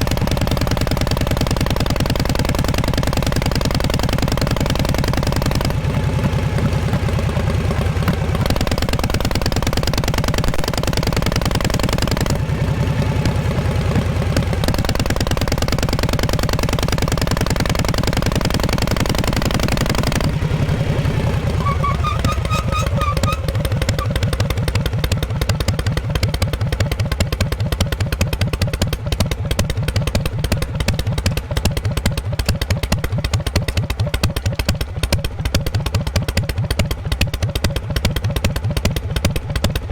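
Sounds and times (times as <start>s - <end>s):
motorcycle exhaust pulsing: 0.0s - 39.9s.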